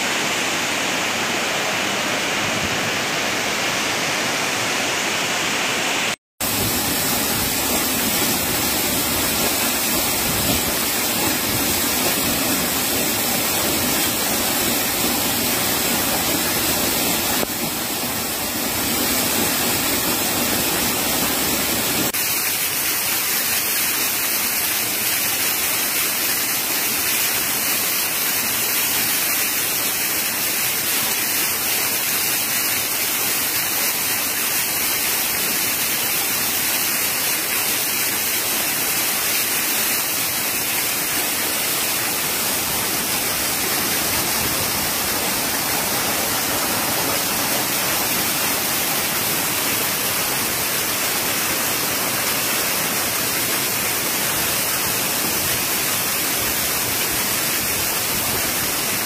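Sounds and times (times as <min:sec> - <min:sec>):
waterfall crashing over rock: 0:00.0 - 0:59.0.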